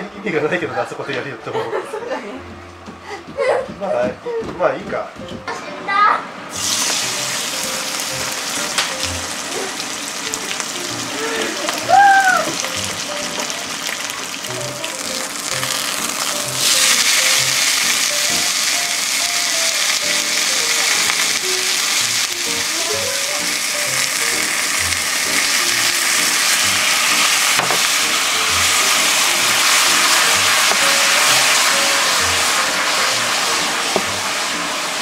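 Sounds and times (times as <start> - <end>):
chicken sizzling in a frying pan: 6.5 - 35.0.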